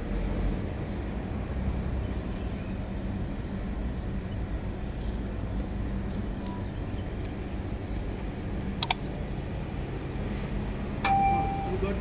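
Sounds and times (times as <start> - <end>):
low outdoor hum: 0.0 - 12.0.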